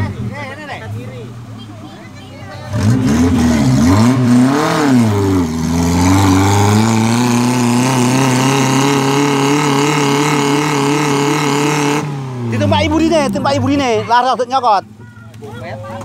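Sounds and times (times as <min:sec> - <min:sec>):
engine labouring under load: 0:00.0 - 0:16.0.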